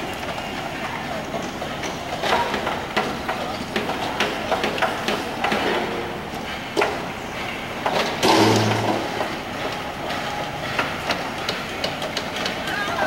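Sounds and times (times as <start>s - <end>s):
train rolling noise: 0.0s - 13.0s
wheels knocking on rails: 0.0s - 13.0s.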